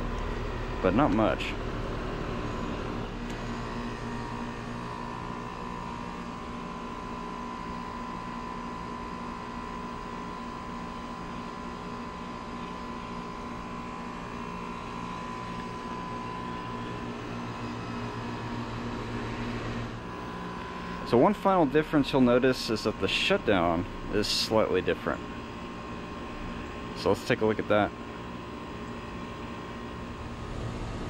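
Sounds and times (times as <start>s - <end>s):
air conditioner compressor hum: 0.0s - 31.0s
condenser fan rushing: 0.0s - 31.0s.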